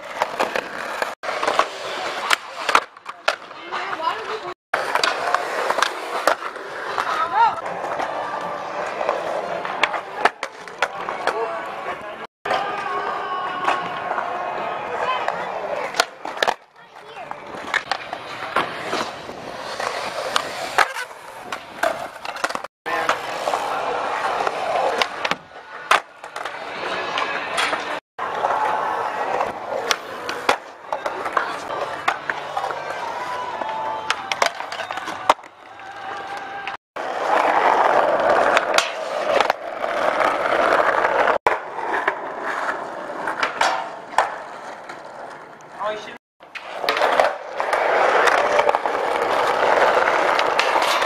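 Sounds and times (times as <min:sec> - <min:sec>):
skateboard clacking: 0:00.0 - 0:51.0
skateboard wheels rolling on concrete: 0:00.0 - 0:51.0.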